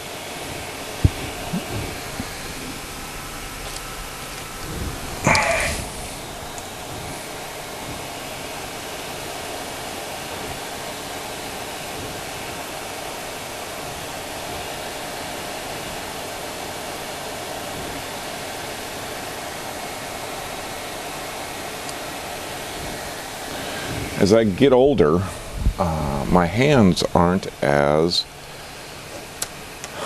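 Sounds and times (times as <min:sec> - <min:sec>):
hot air blower rushing: 0:00.0 - 0:24.3.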